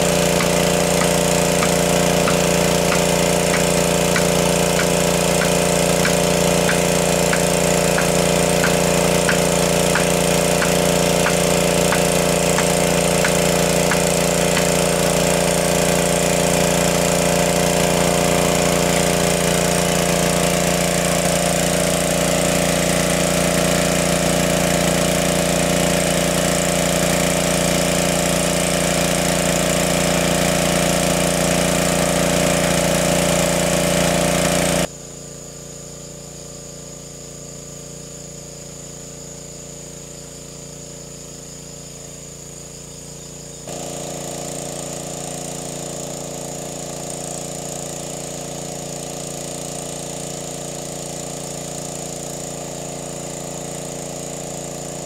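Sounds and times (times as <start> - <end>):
engine-driven water pump running: 0.0 - 55.0.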